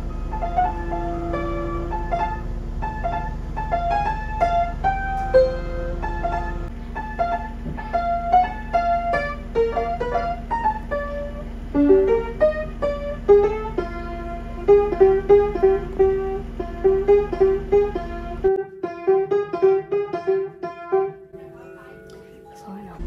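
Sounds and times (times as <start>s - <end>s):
steady low hum: 0.0s - 18.8s
piano melody: 0.0s - 23.0s.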